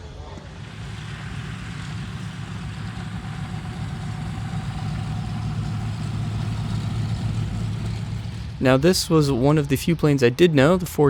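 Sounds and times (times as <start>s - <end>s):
engine idling: 0.0s - 9.2s.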